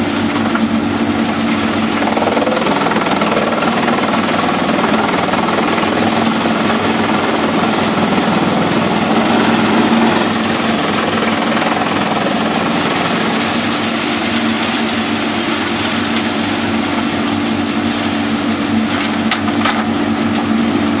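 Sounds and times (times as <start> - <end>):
engine hum: 0.0 - 21.0
wood chipper chipping timber: 0.0 - 21.0.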